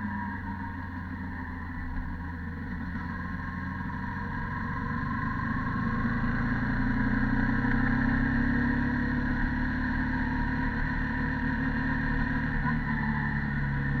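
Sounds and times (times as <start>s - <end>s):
motorcycle engine revving: 2.5s - 14.0s.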